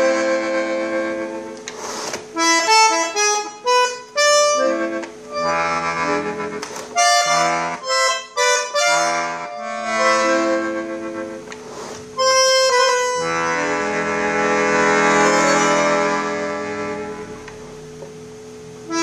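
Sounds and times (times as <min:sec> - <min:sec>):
bandoneon playing reedy chords: 0:00.0 - 0:18.0, 0:18.8 - 0:19.0.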